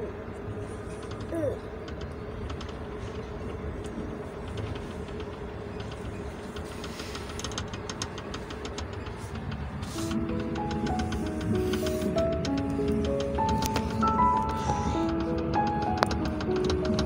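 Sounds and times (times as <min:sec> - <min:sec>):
train wheels rumbling on track: 0:00.0 - 0:17.0
light rattling clicks: 0:00.9 - 0:17.0.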